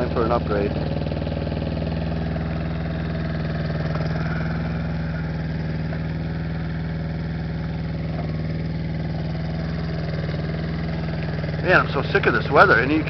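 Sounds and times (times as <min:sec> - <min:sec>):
excavator engine idling: 0:00.0 - 0:13.0.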